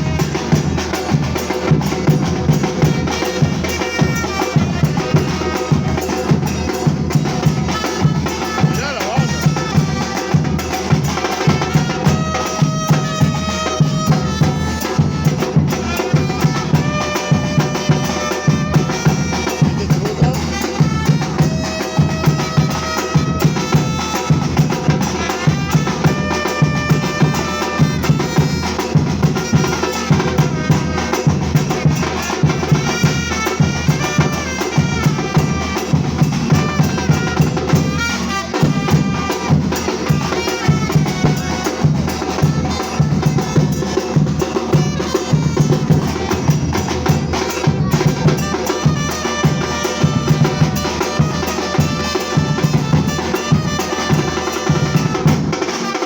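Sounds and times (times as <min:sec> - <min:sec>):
percussion group drumming: 0:00.0 - 0:56.0.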